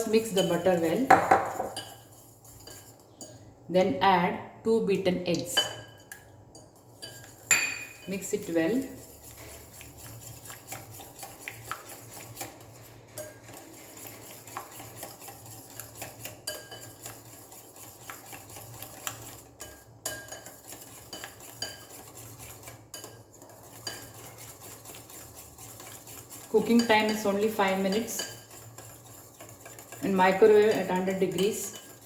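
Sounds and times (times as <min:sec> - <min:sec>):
utensil clinking and scraping bowl: 0:00.0 - 0:03.5, 0:05.3 - 0:32.0.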